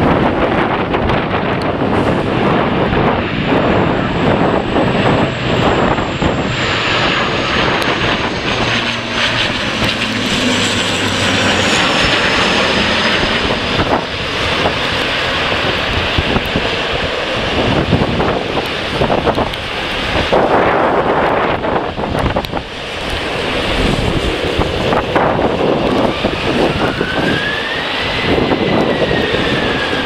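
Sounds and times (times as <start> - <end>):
airliner engines whining: 0.0 - 30.0
wind noise on microphone: 0.0 - 30.0.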